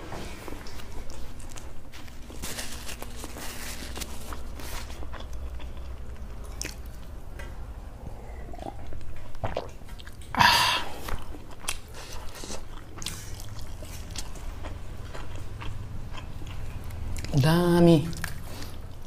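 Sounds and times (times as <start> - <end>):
chewing rice: 0.6 - 7.1, 8.2 - 17.4, 18.1 - 19.0.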